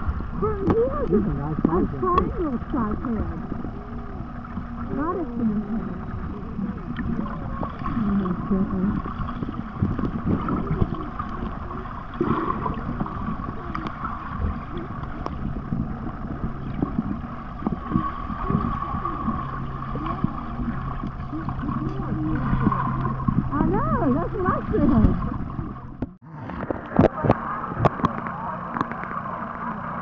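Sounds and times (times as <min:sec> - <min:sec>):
low steady hum: 0:00.0 - 0:30.0
muffled churning water underwater: 0:00.0 - 0:30.0.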